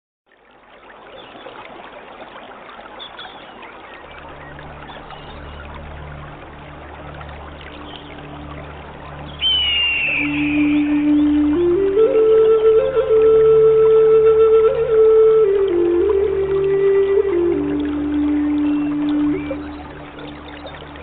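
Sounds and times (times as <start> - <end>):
stream water trickling: 0.3 - 21.0
flute-like music: 4.0 - 21.0
low steady drone: 4.0 - 21.0.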